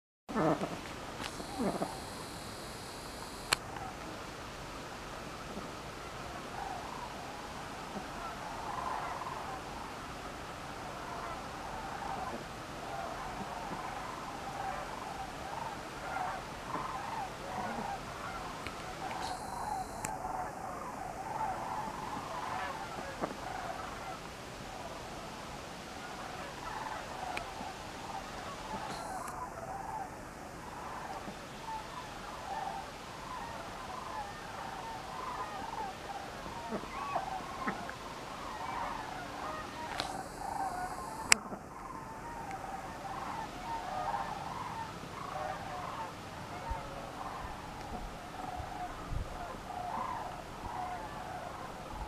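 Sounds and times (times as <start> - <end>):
flock of cranes calling: 0.3 - 52.0.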